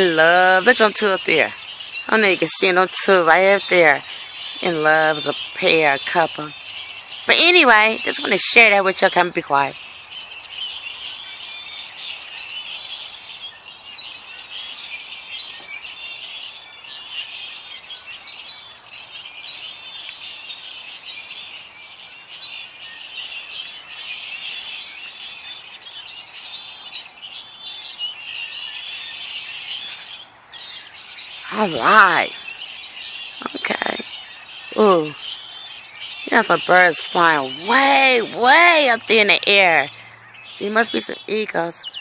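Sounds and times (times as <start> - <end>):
songbirds chirping in chorus: 0.0 - 42.0.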